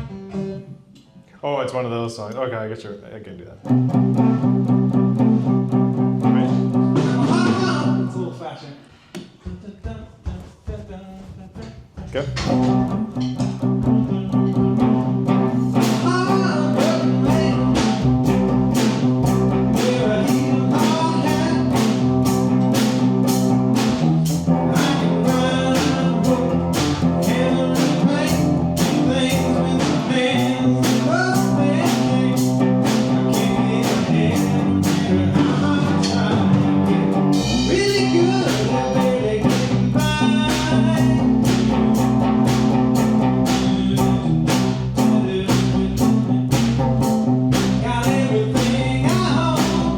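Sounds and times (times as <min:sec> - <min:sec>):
band playing country-rock song: 0:00.0 - 0:00.8, 0:03.6 - 0:08.2, 0:12.2 - 0:49.9.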